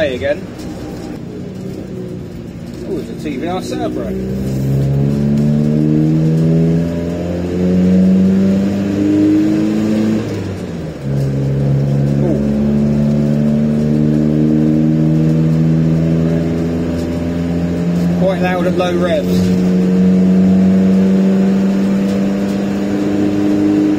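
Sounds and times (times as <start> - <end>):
diesel van engine droning: 0.0 - 23.9.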